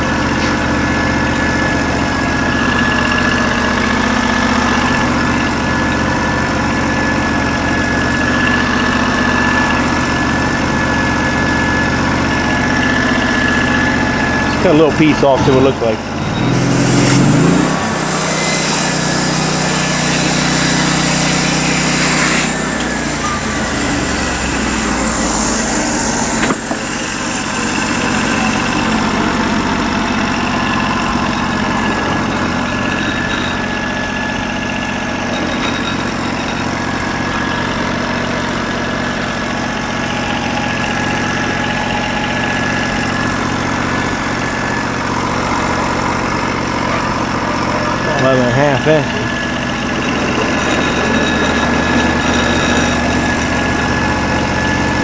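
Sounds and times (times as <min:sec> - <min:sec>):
sawmill engine and blade cutting: 0:00.0 - 0:55.0.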